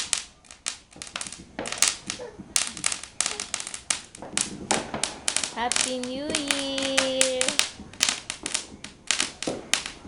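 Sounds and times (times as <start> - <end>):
fireworks and firecrackers popping: 0.0 - 10.0.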